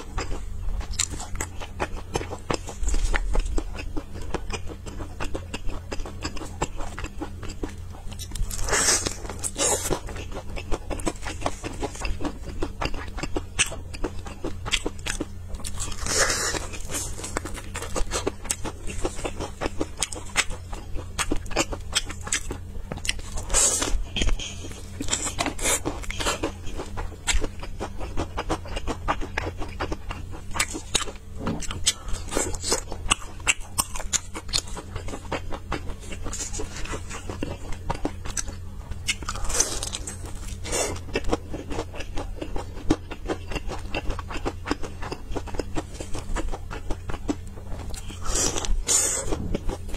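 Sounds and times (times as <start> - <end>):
person chewing crispy chicken: 0.0 - 49.9.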